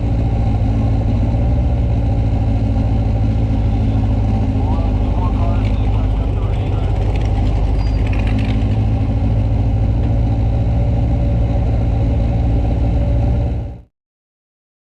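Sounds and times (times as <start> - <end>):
car engine running at low revs: 0.0 - 13.9.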